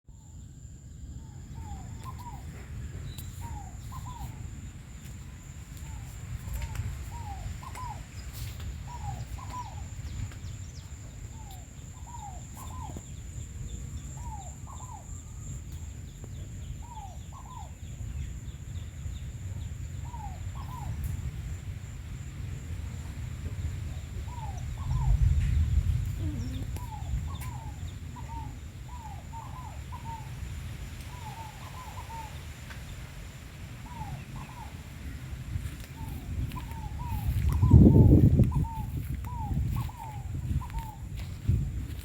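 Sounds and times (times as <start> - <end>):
wind rumble on microphone: 0.2 - 42.0
bird calling: 1.2 - 15.6, 16.3 - 18.0, 20.0 - 21.1, 23.9 - 33.2, 33.8 - 42.0.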